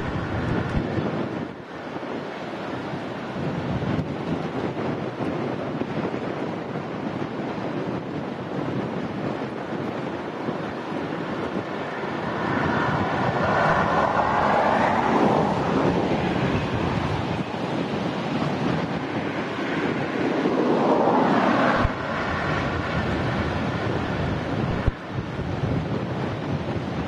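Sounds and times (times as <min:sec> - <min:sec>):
distant jet engines: 0:00.0 - 0:27.0
gusty wind buffeting microphone: 0:00.0 - 0:27.0.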